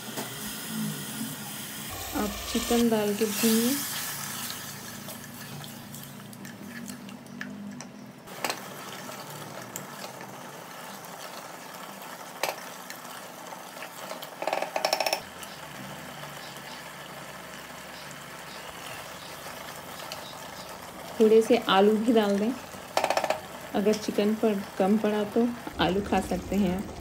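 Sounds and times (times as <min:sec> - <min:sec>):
food frying hiss: 0:00.0 - 0:07.0, 0:08.3 - 0:14.5, 0:15.2 - 0:27.0.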